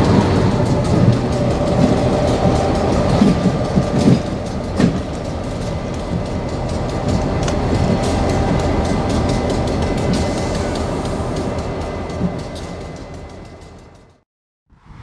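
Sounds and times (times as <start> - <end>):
train wheels clicking over rail joints: 0.0 - 14.2
diesel locomotive engine drone: 0.0 - 15.0.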